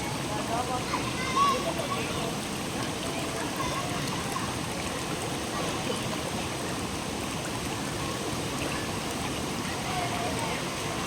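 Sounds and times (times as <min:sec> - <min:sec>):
river flowing over rocks: 0:00.0 - 0:11.0.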